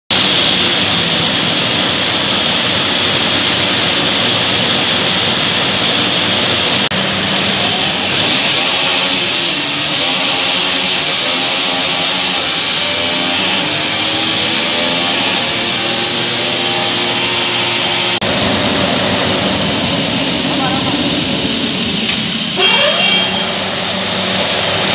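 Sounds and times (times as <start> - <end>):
motorcycle engine roaring: 0.1 - 24.9.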